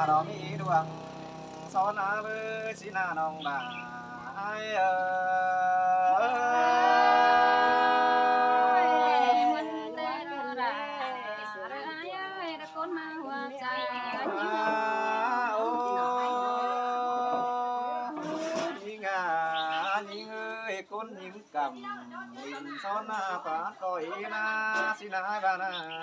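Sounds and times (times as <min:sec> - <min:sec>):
person singing unaccompanied: 0:00.0 - 0:26.0.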